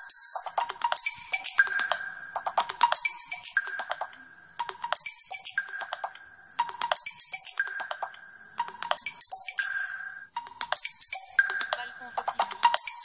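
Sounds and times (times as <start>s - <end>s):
phone ringtone with chiming notes: 0.0s - 2.0s, 2.6s - 13.0s.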